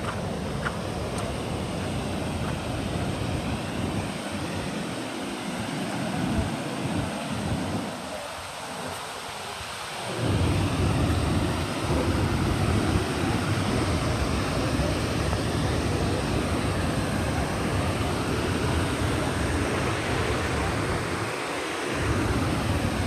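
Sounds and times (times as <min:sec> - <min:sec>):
waterfall rushing and splashing: 0:00.0 - 0:23.0.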